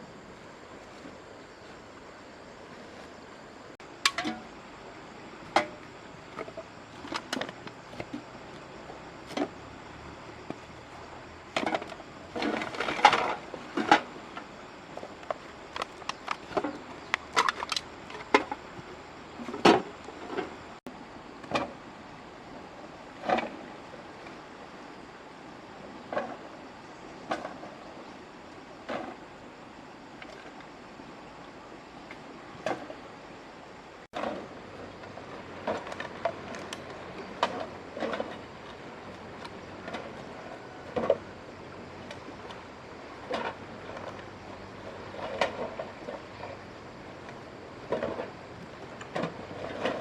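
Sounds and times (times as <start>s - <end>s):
steady background hiss: 0.0s - 50.0s.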